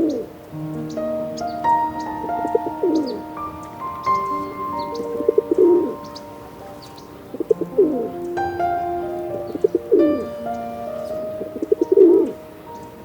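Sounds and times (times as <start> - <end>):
background music with held notes: 0.0 - 13.0
bird calling with falling glide: 0.0 - 13.0.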